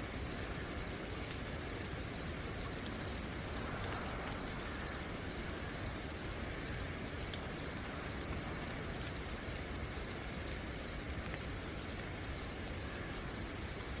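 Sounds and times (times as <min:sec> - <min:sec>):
crickets chirping: 0:00.0 - 0:14.0
steady rain falling: 0:00.0 - 0:14.0.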